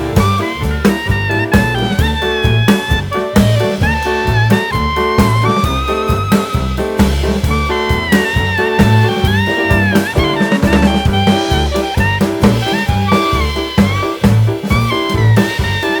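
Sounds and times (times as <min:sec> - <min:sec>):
jazzy background music: 0:00.0 - 0:16.0
saxophone melody: 0:00.0 - 0:16.0.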